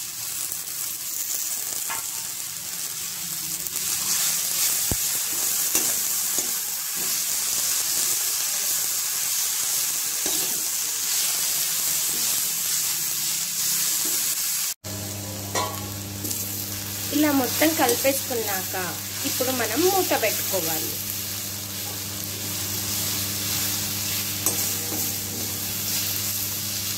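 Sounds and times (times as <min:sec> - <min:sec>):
greens sizzling in hot oil: 0:00.0 - 0:26.9.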